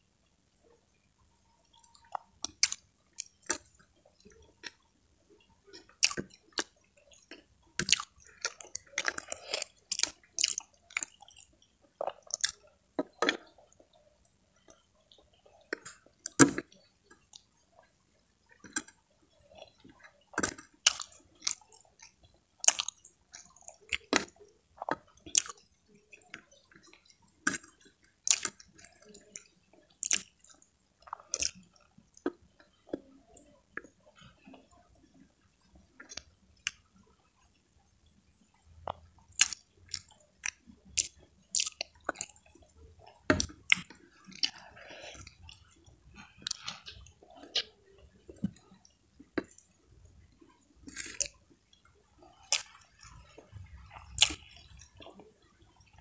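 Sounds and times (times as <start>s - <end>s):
person chewing with wet smacks: 1.6s - 56.0s.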